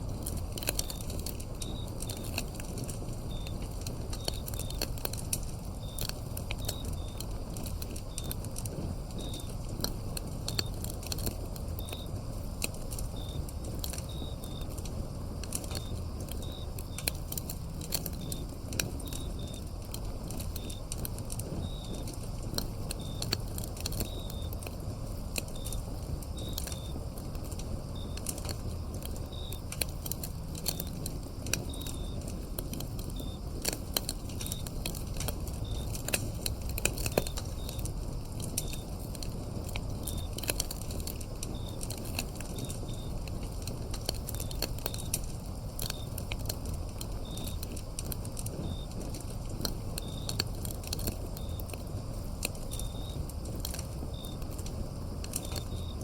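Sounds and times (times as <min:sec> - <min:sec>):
crickets chirping: 0:00.0 - 0:56.0
low rumble of flames: 0:00.0 - 0:56.0
wood fire crackling: 0:00.0 - 0:56.0.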